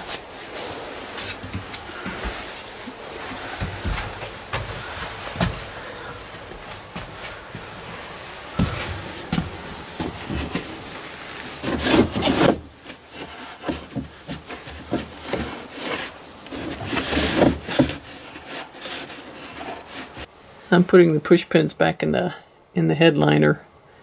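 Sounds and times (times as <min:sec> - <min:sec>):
wool rustling and scratching: 0:00.0 - 0:20.3.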